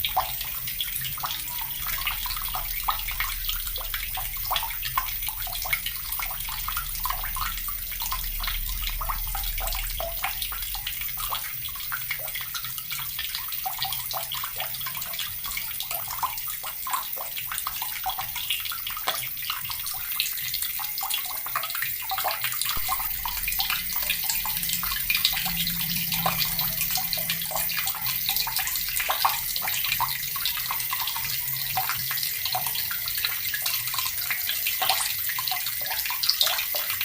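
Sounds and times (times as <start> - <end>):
water running from a tap: 0.0 - 37.0.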